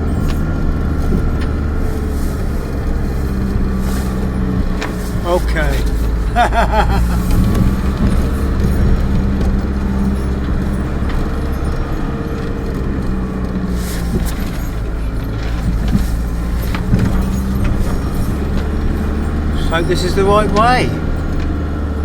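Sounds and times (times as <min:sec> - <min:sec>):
road rumble: 0:00.0 - 0:22.0
vehicle engine running: 0:00.0 - 0:22.0.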